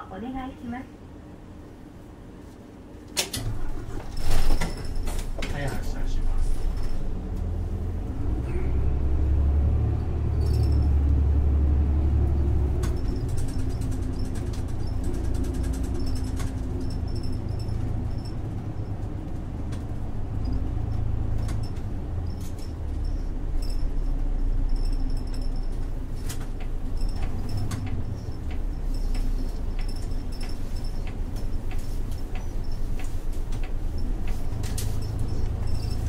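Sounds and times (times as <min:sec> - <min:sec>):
bus diesel engine rumble: 0:00.0 - 0:36.0
bodywork clicks and rattles: 0:03.1 - 0:07.6, 0:10.0 - 0:36.0.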